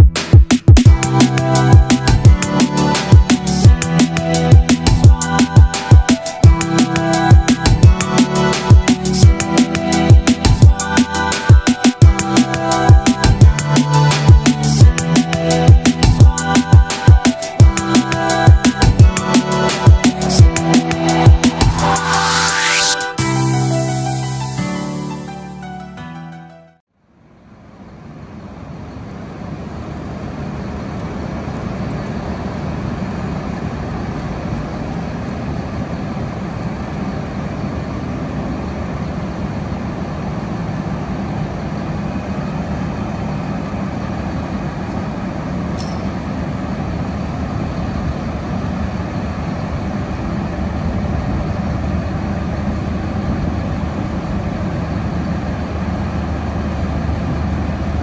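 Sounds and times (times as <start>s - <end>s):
diesel engines droning: 0.9s - 26.3s, 27.7s - 58.0s.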